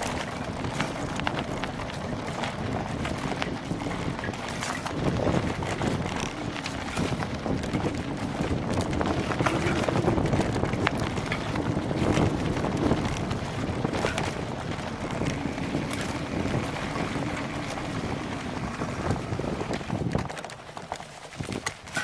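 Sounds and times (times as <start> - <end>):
bicycle clicks and knocks: 0.0 - 22.0
wind buffeting microphone: 0.0 - 22.0.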